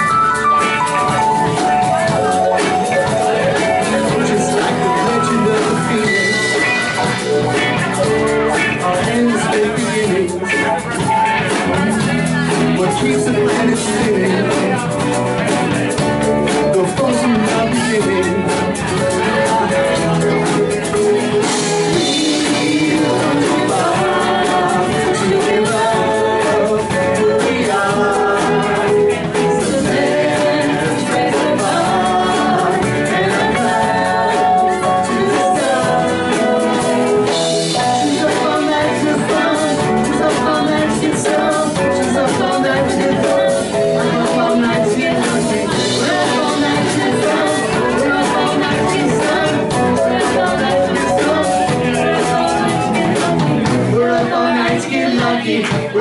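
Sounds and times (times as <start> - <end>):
live rock band with vocals: 0.0 - 56.0.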